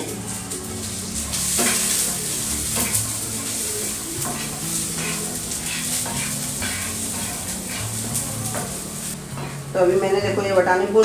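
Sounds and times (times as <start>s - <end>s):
peas sizzling in oil: 0.0s - 11.0s
wooden spatula scraping pan: 0.8s - 10.0s.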